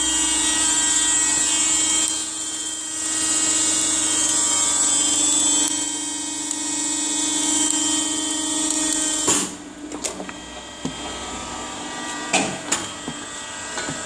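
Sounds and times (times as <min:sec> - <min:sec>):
hydraulic press humming: 0:00.0 - 0:14.0.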